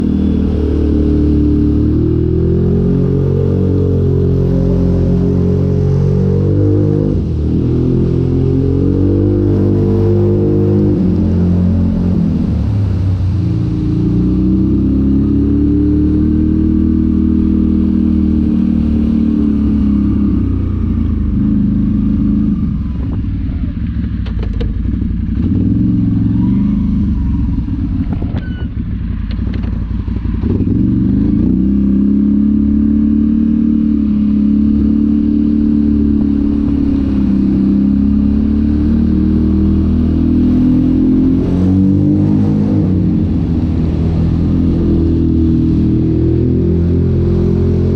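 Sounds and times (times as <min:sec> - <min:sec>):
engine revving under load: 0:00.0 - 0:23.0, 0:30.4 - 0:47.9.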